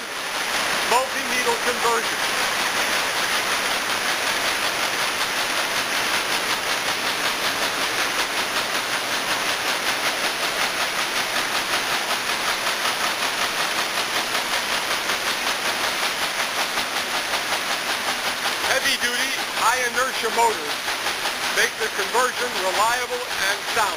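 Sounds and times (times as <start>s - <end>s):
quilting machine needles clattering: 4.0s - 23.9s.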